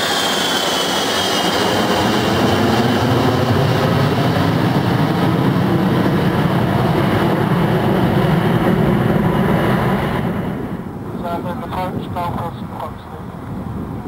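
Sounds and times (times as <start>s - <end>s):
heavy jet rumble: 0.0s - 14.0s
jet airliner engines whining: 0.0s - 14.0s.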